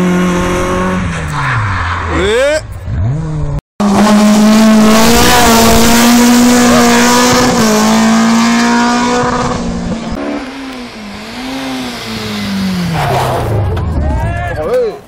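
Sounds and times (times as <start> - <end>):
rally car engine revving: 0.0 - 14.6.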